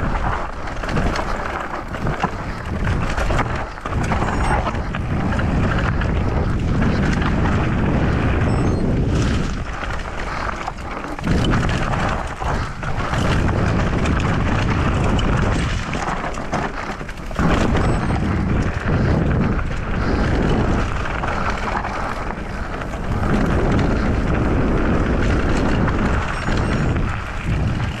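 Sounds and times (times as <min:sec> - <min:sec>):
bike rattling: 0:00.0 - 0:28.0
wind buffeting microphone: 0:00.0 - 0:28.0.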